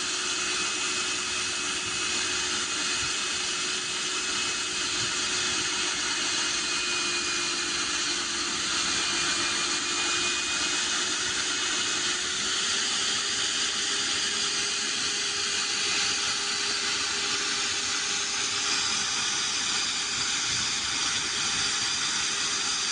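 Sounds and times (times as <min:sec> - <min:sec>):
core drill hissing and whining: 0:00.0 - 0:22.9.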